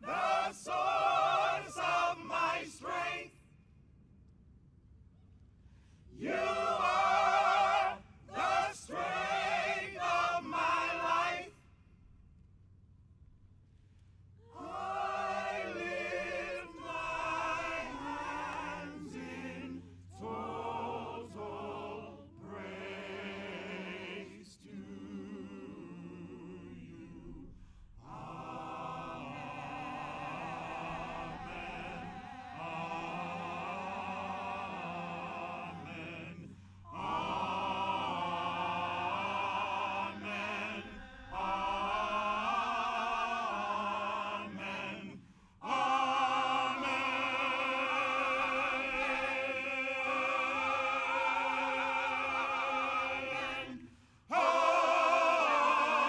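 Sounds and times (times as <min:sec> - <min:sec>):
gospel choir singing: 0:00.0 - 0:03.3, 0:06.2 - 0:11.6, 0:14.4 - 0:56.0.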